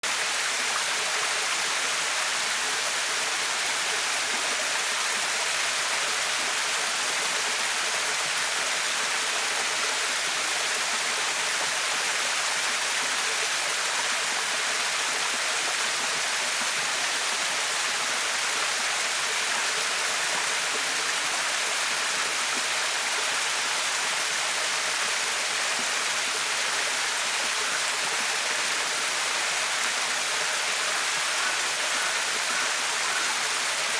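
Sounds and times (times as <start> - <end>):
small waterfall rushing: 0.0 - 33.9.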